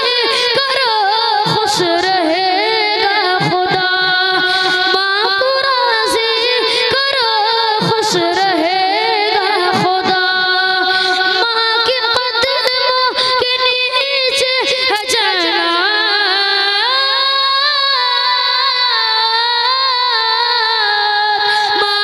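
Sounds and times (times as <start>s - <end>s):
boy singing devotional song: 0.0s - 22.0s.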